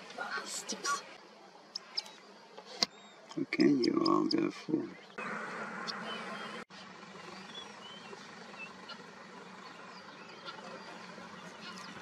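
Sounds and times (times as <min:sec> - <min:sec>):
birds chirping: 0:00.0 - 0:12.0
outdoor background hiss: 0:00.0 - 0:12.0.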